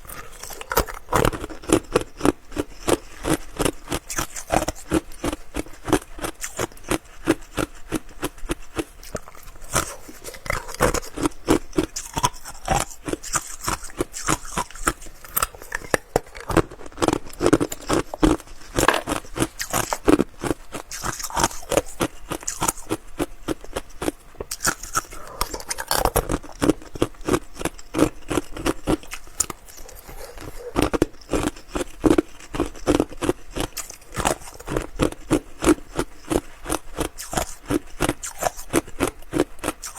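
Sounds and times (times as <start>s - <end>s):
ice crunching while chewing: 0.0s - 39.9s.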